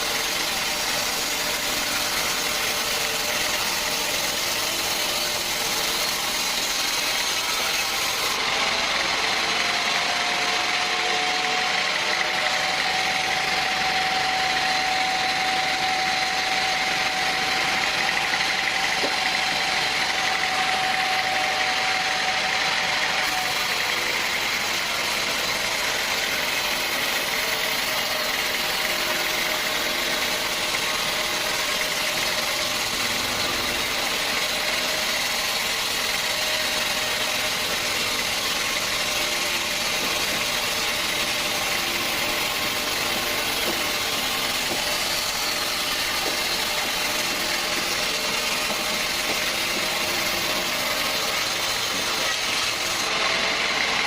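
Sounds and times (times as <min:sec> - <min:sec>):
held whining tone: 0:00.0 - 0:54.0
sawmill machinery running: 0:00.0 - 0:54.0.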